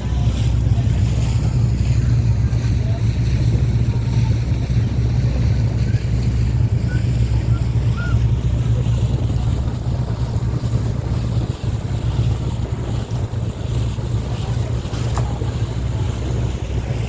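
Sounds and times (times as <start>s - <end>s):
motorboat engine droning: 0.0s - 17.0s
rushing wind: 0.0s - 17.0s
water noise: 0.0s - 17.0s.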